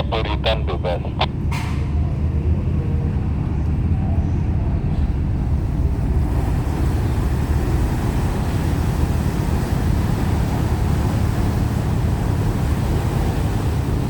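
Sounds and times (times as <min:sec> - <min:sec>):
ship engines rumbling: 0:00.0 - 0:14.0
wind and churned water: 0:00.0 - 0:14.0.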